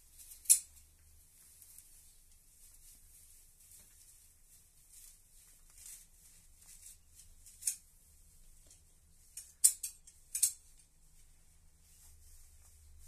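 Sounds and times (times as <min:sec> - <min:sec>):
rabbits nibbling grass: 0:00.0 - 0:13.0.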